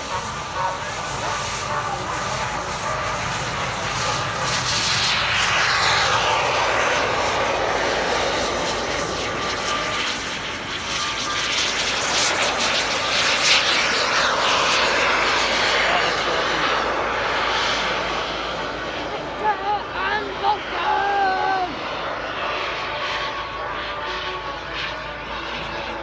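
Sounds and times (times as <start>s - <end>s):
model jet passing: 0.0s - 26.0s.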